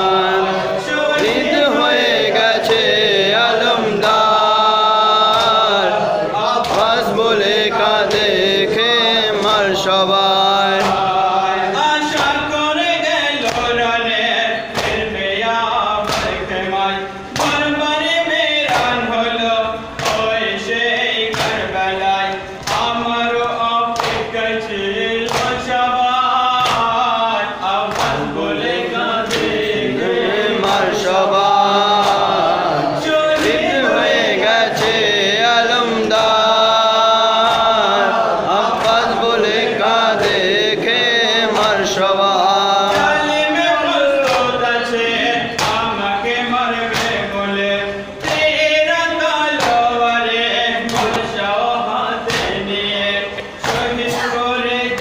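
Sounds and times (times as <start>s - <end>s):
men chanting in unison: 0.0s - 55.0s.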